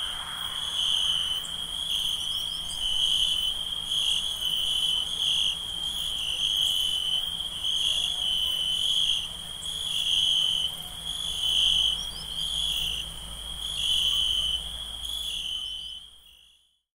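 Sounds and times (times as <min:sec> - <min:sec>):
crickets chirping: 0:00.0 - 0:16.8.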